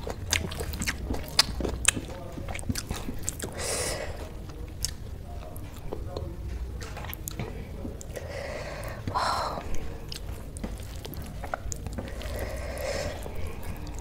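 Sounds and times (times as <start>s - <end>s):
wet chewing and lip smacks: 0.0s - 8.2s, 8.9s - 14.0s.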